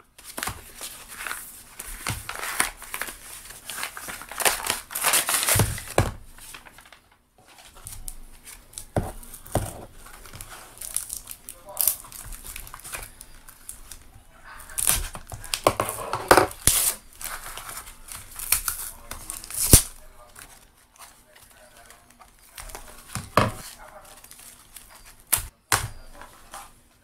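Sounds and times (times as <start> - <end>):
plastic tearing and crinkling: 0.2 - 25.5.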